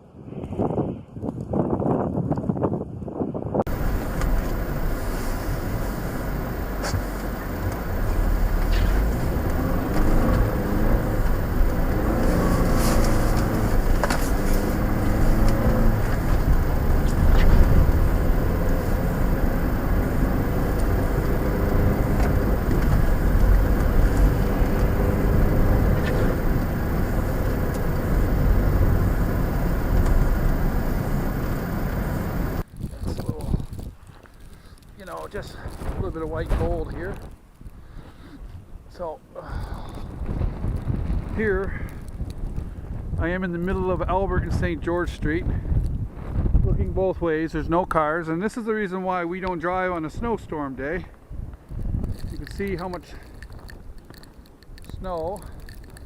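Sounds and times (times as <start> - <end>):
vehicle engine rumbling: 3.6 - 56.0.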